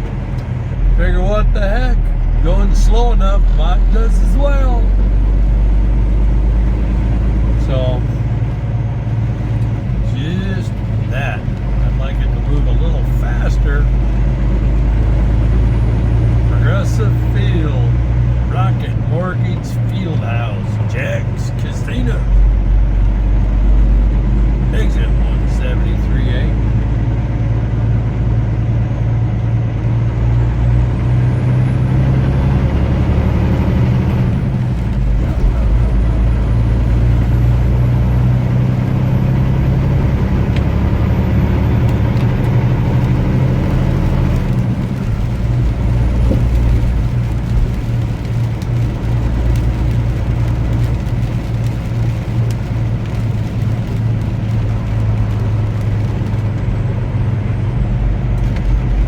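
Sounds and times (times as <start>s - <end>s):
road noise: 0.0s - 59.0s
vehicle engine hum: 0.0s - 59.0s.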